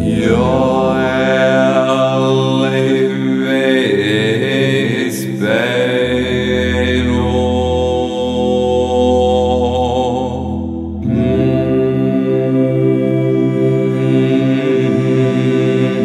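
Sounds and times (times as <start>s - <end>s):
man singing slow melody: 0.0s - 16.0s
sustained vocal harmonies: 0.0s - 16.0s.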